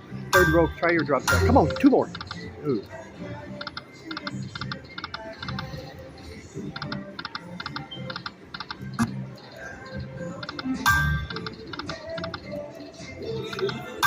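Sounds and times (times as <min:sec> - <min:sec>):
slot machine reels ticking: 0:00.3 - 0:02.9, 0:03.5 - 0:14.0.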